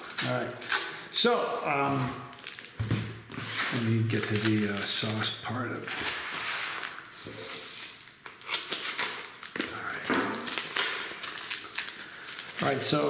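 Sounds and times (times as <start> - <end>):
packing material rustling: 0.0 - 13.0.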